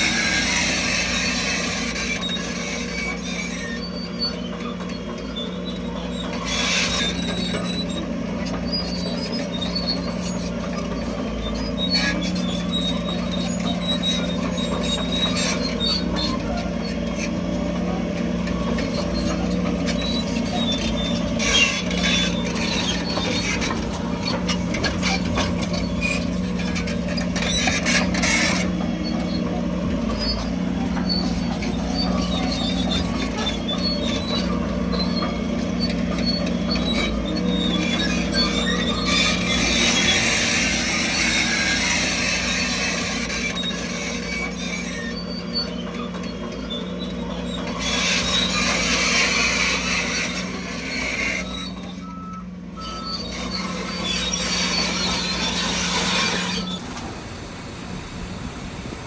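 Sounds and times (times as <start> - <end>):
steel tracks squealing and clanking: 0.0 - 57.8
diesel engine running: 0.0 - 59.0.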